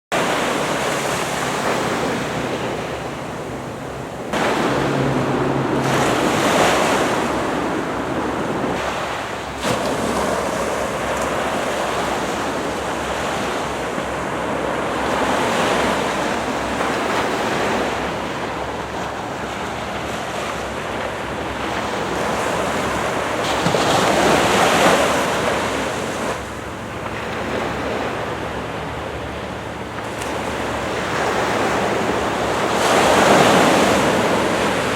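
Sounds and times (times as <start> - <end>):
small waves breaking on shore: 0.1 - 34.9.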